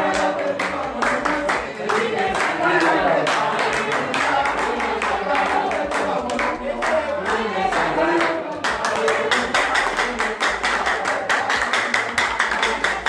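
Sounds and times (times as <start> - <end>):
congregation singing: 0.0 - 13.0
rhythmic hand clapping: 0.0 - 13.0.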